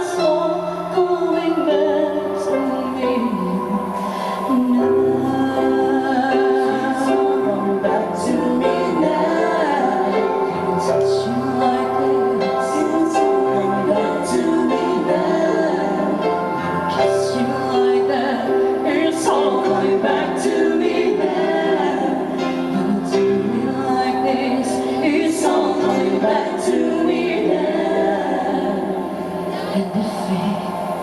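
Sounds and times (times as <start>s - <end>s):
person singing long notes: 0.0s - 31.0s.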